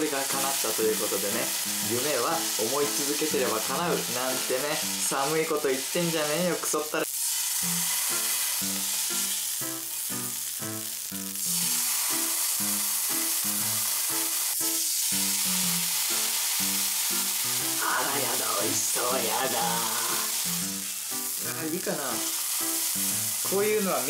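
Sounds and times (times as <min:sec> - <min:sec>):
background music: 0:00.0 - 0:06.2, 0:07.6 - 0:24.0
steak sizzling: 0:00.0 - 0:24.0.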